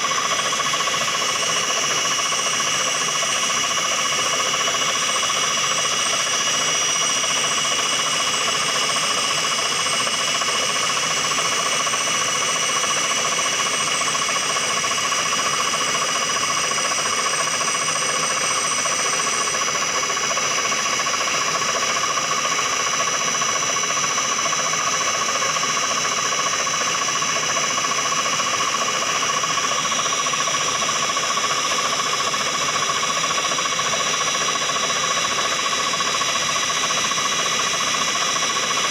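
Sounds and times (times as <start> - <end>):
milling machine whine: 0.0 - 38.9.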